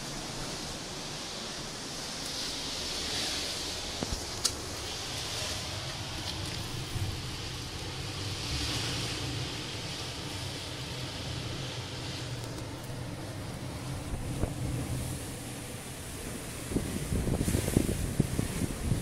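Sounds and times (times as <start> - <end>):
surf washing against rocks: 0.0 - 19.0
wind rumble on microphone: 2.4 - 19.0.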